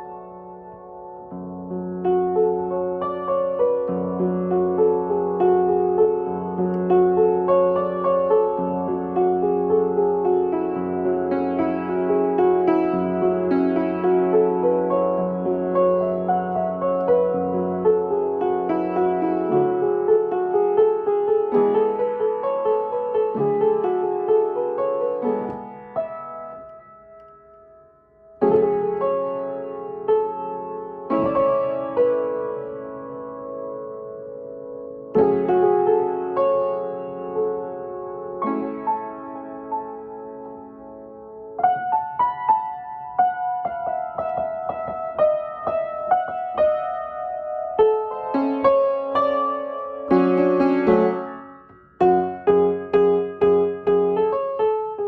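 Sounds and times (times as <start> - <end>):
slow piano chords: 0.0 - 55.0.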